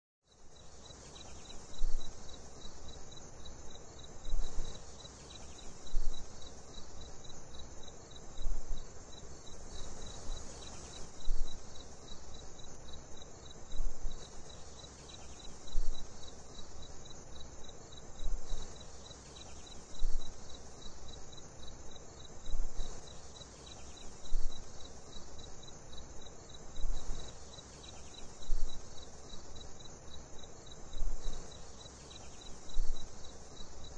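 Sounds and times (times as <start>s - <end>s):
crickets chirping: 0.3s - 33.9s.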